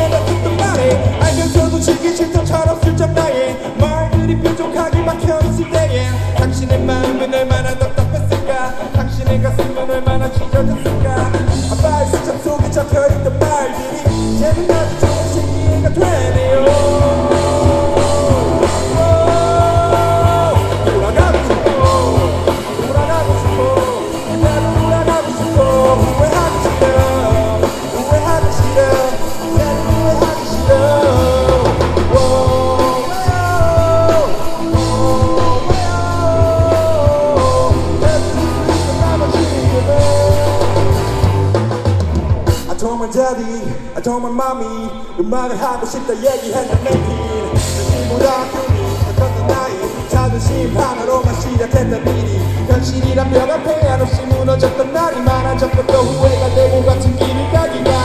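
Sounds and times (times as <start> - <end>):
live rock band playing: 0.0 - 44.4, 45.8 - 58.0
man singing lead vocal: 0.0 - 58.0.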